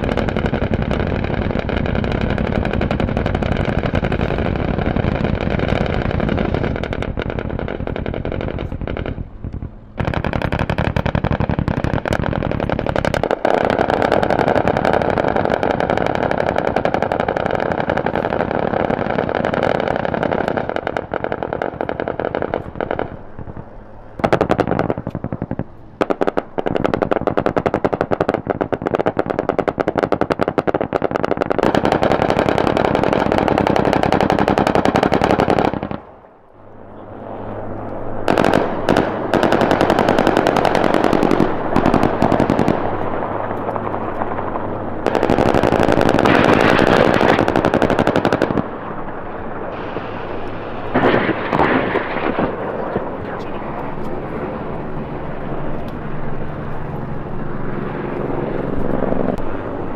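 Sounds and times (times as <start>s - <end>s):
rapid automatic gunfire: 0.0s - 36.0s, 38.3s - 53.6s.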